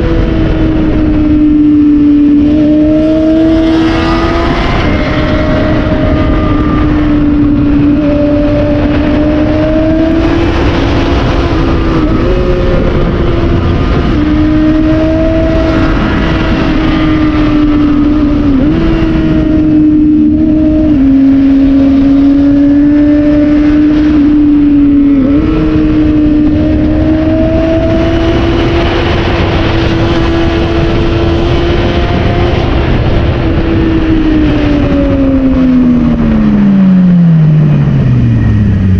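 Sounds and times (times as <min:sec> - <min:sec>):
motorcycle engine at high revs: 0:00.0 - 0:38.9
wind noise: 0:00.0 - 0:38.9.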